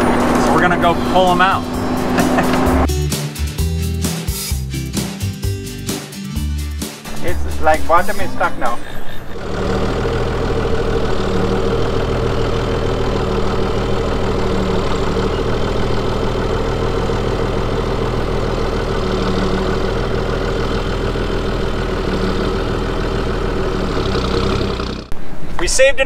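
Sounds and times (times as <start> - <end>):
vehicle engine idling: 0.0 - 2.9, 7.0 - 25.6.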